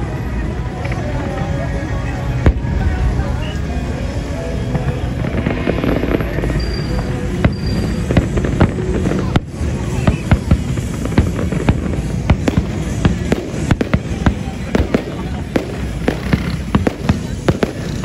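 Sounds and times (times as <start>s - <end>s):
continuous rumble: 0.0s - 18.0s
fireworks bangs and crackles: 0.0s - 18.0s.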